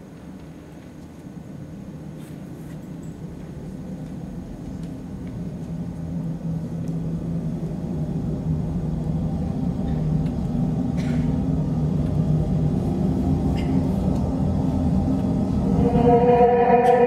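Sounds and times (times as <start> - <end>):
low rumbling music drone: 3.2 - 17.0.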